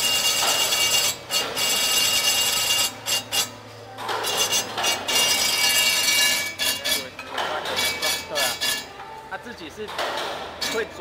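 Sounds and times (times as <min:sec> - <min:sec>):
steel rod scraping through rollers: 0:00.0 - 0:08.9.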